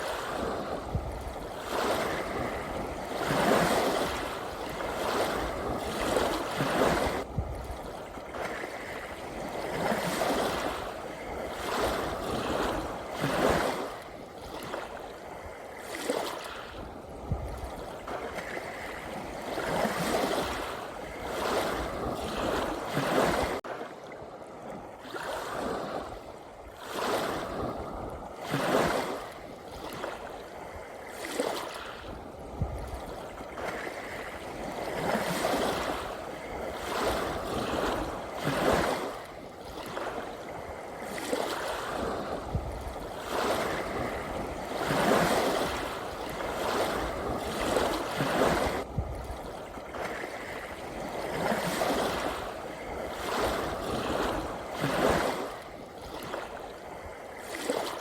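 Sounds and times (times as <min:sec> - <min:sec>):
ocean waves washing in: 0:00.0 - 0:58.0.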